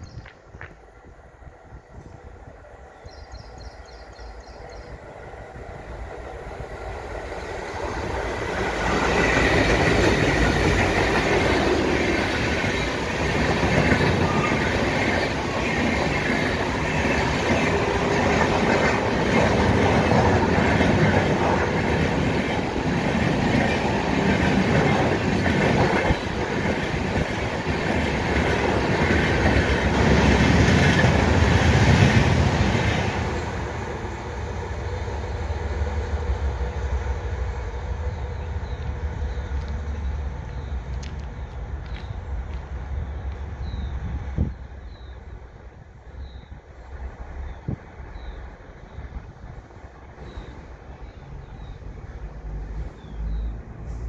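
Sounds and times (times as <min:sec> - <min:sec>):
diesel locomotive engines: 0:00.0 - 0:54.0
train wheels running over rails: 0:04.7 - 0:51.9.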